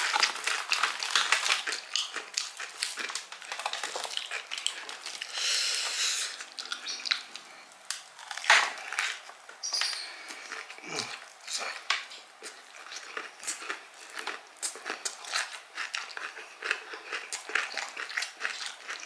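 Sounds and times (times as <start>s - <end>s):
crunching and chewing fried food: 0.0s - 19.0s.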